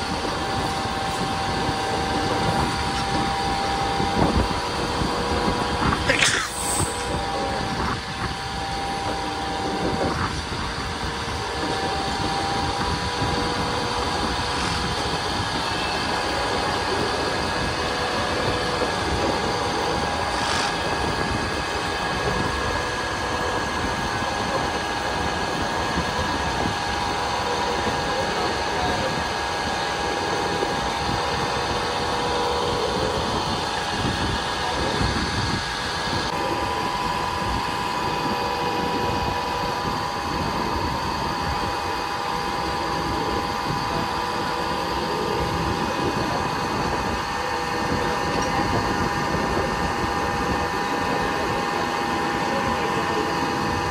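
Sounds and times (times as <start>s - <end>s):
electric train rumble: 0.0s - 53.9s
multi-tone hum: 0.0s - 53.9s.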